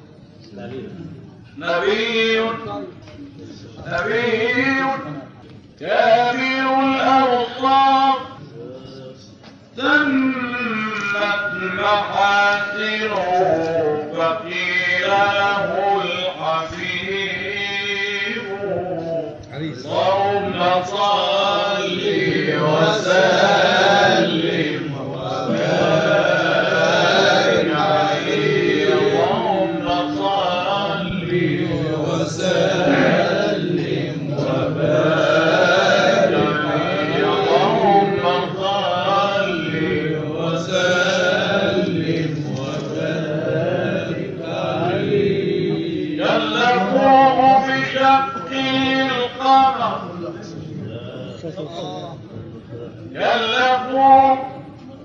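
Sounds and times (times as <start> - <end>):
man chanting: 0.6 - 3.0, 3.6 - 54.8.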